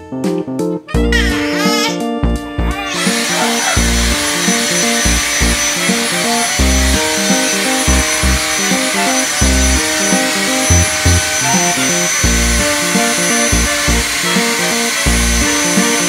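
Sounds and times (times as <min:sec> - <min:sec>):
instrumental background music: 0:00.0 - 0:16.0
vacuum cleaner hiss: 0:02.7 - 0:16.0
faint high whine: 0:02.8 - 0:16.0.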